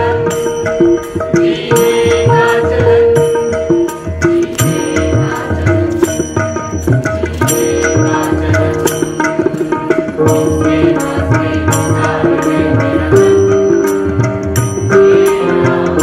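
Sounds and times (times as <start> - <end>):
tabla drum pattern: 0.0 - 16.0.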